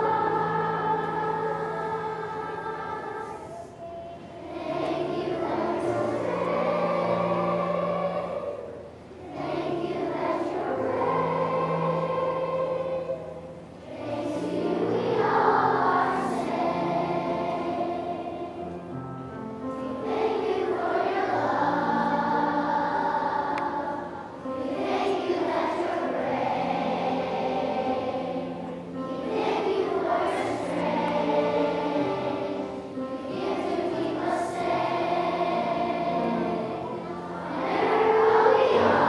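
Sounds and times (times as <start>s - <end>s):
choir singing long notes: 0.0s - 39.0s.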